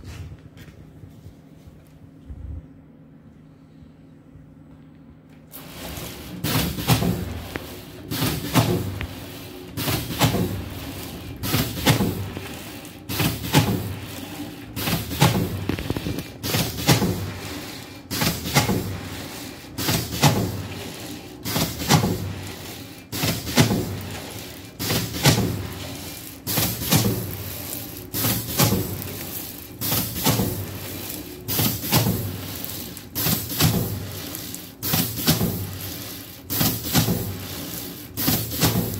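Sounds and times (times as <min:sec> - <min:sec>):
foil rewinder machine running: 0:05.5 - 0:38.9.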